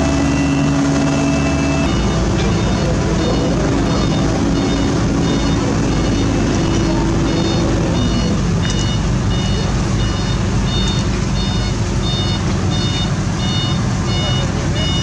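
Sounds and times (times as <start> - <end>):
diesel engines rumbling: 0.0 - 15.0
reversing alarm beeping: 0.0 - 15.0.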